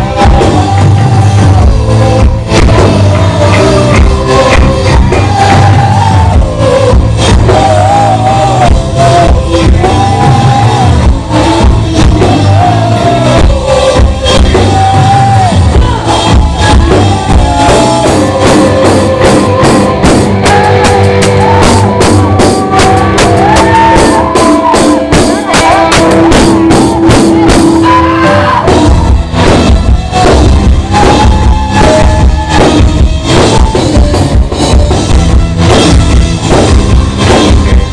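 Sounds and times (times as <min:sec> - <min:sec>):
sung vocals: 0:00.0 - 0:35.4
drum kit beat: 0:00.0 - 0:37.9
live rock band playing: 0:00.0 - 0:37.9.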